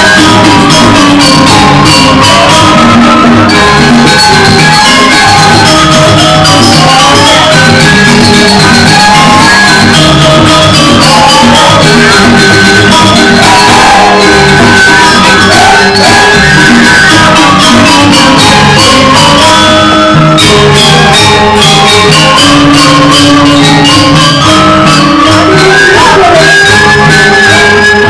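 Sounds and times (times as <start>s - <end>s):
bamboo gamelan music: 0.0s - 28.0s.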